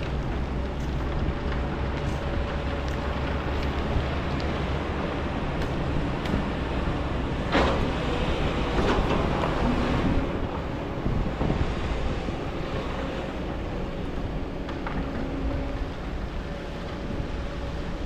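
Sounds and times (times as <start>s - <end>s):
excavator diesel engine rumble: 0.0s - 18.0s.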